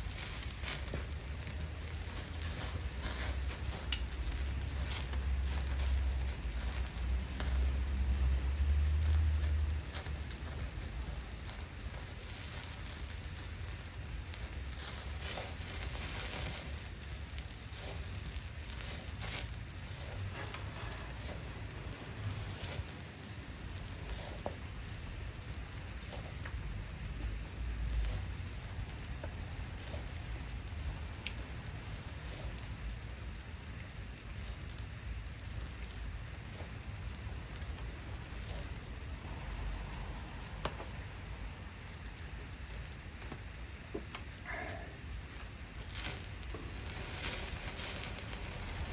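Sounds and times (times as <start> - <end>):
campfire hissing and crackling: 0.0 - 48.9
rain: 0.0 - 48.9.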